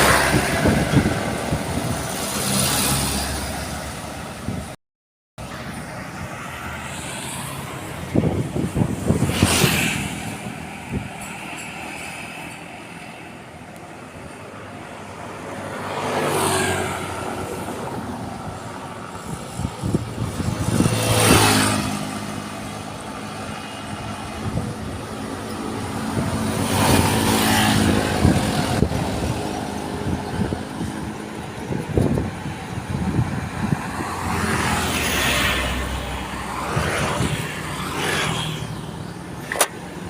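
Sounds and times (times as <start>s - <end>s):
vehicles passing by: 0.0s - 4.8s, 5.4s - 40.0s.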